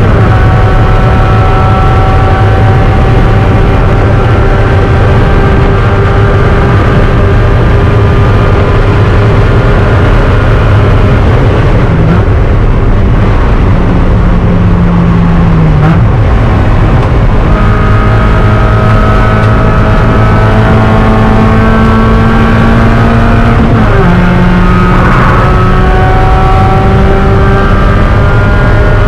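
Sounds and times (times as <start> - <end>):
race car engine running hard: 0.0 - 29.0
road and wind noise: 0.0 - 29.0.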